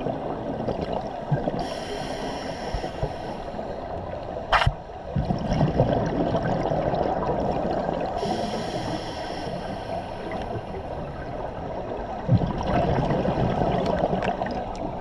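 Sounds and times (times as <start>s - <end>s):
underwater bubbling: 0.0s - 15.0s.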